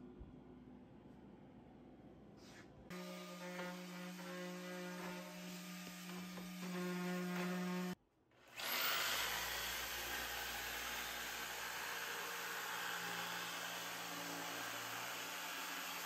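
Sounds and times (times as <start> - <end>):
jigsaw cutting plywood: 2.9 - 16.0.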